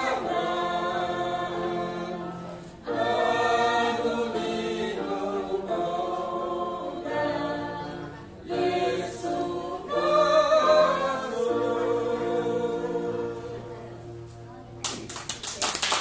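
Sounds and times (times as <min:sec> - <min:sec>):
church choir singing a hymn: 0:00.0 - 0:14.1.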